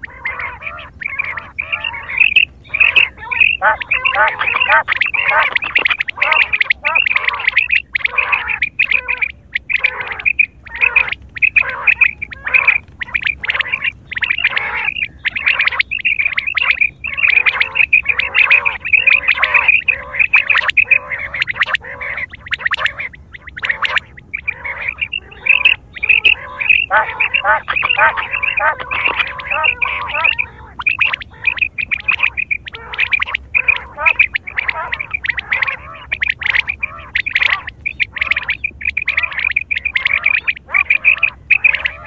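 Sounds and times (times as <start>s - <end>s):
quail calling: 0.0s - 42.0s.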